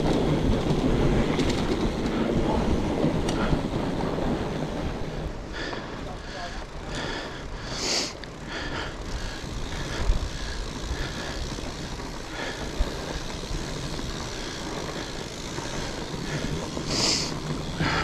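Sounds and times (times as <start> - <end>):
bike tires rumbling over trail: 0.0 - 18.0.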